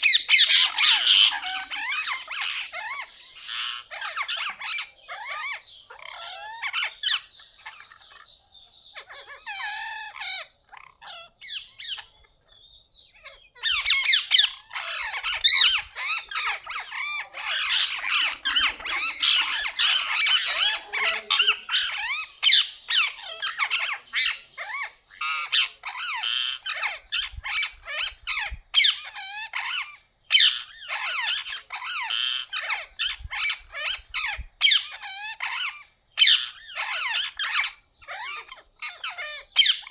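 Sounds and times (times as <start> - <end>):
parrots squawking and chattering: 0.0 - 39.9.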